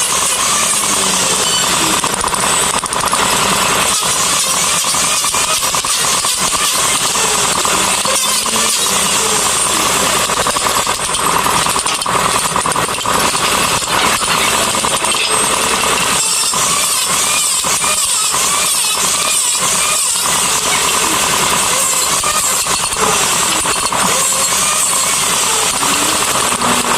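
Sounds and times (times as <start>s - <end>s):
power tool buzzing on wood: 0.0s - 26.9s.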